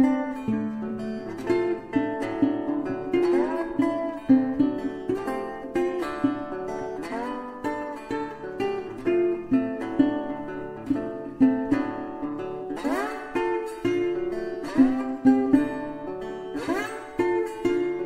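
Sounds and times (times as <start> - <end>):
acoustic guitar picking a melody: 0.0 - 18.0.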